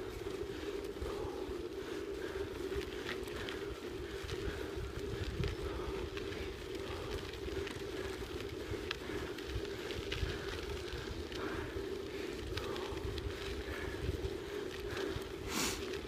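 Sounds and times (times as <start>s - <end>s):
grit crackling: 0.0s - 16.0s
vehicle rolling hum on dirt track: 0.0s - 16.0s
wind rumble on microphone: 0.0s - 16.0s.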